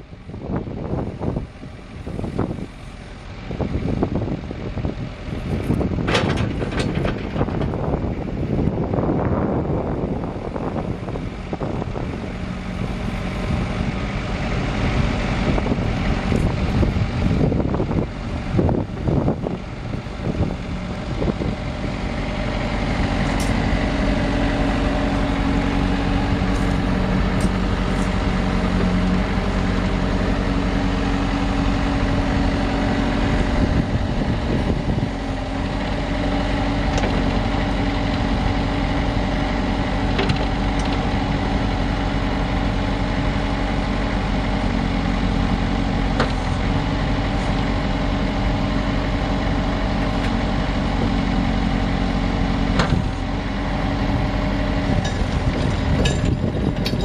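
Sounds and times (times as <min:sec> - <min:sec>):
diesel engine running: 0:00.0 - 0:57.0
wind buffeting microphone: 0:00.0 - 0:57.0.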